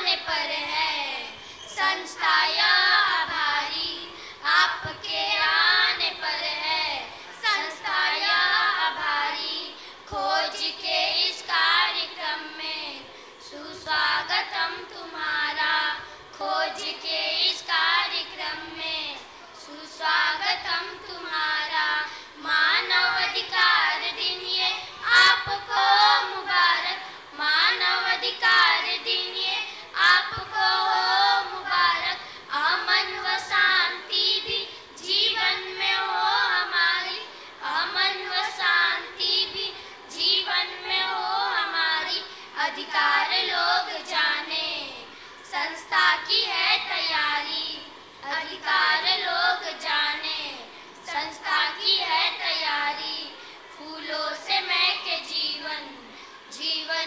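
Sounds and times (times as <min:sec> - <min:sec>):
girls singing into microphones: 0:00.0 - 0:57.0.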